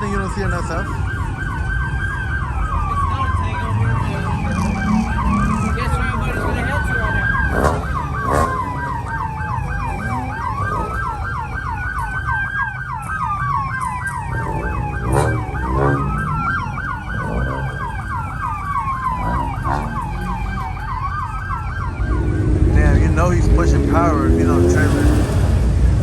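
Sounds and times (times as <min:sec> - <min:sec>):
low vehicle rumble: 0:00.0 - 0:26.0
police siren wailing: 0:00.0 - 0:26.0
police siren yelping: 0:00.0 - 0:26.0.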